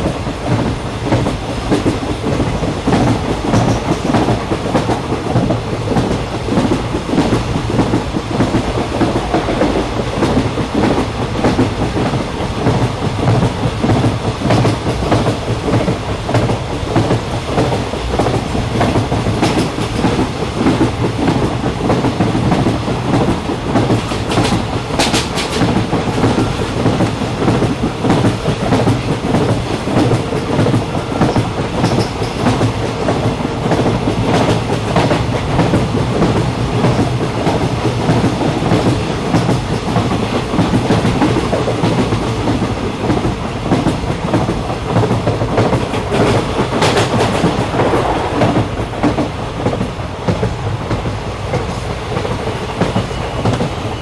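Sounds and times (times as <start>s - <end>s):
clickety-clack of wheels: 0.0s - 54.0s
sharp train clatters: 0.0s - 54.0s
train rumbling along track: 0.0s - 54.0s.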